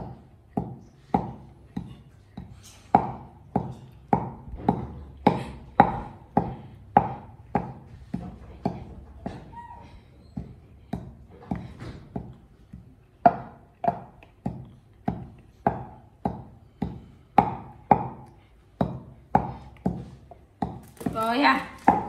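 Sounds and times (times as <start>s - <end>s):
wooden pestle pounding in mortar: 0.0s - 22.0s.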